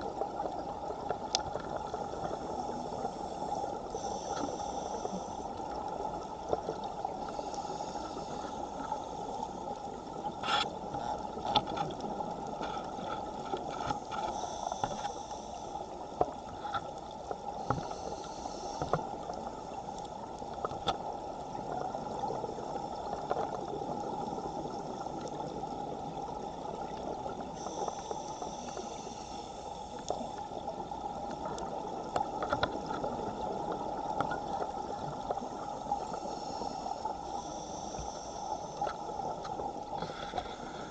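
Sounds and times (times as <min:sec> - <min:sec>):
underwater rushing noise: 0:00.0 - 0:40.9.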